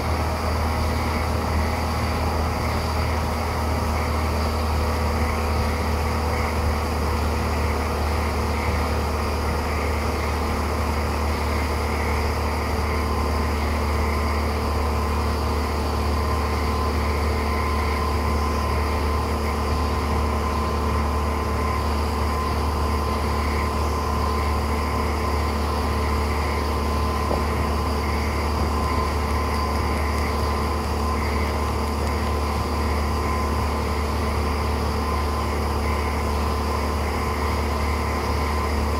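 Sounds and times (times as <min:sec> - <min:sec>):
outboard motor running: 0:00.0 - 0:38.9
wind: 0:00.0 - 0:38.9.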